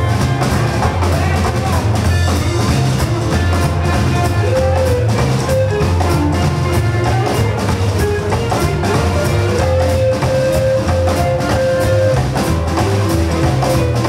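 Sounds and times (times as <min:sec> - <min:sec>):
rock and roll band playing: 0:00.0 - 0:14.0
saxophone lead: 0:00.0 - 0:14.0.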